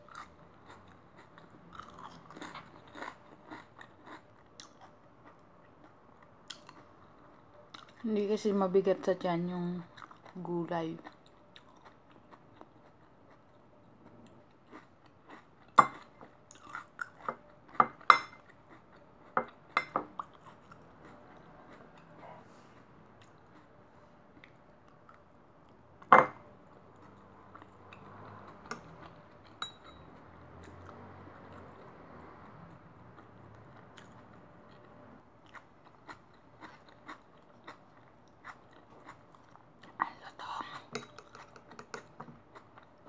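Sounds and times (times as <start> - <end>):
crunchy chewing of raw vegetables: 0.0 - 8.0, 11.0 - 25.8, 26.6 - 43.0.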